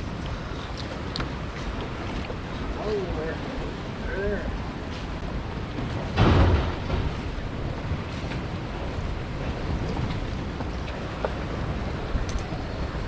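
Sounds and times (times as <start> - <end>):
choppy water washing against pier: 0.0 - 13.0
wind buffeting microphone: 0.0 - 13.0.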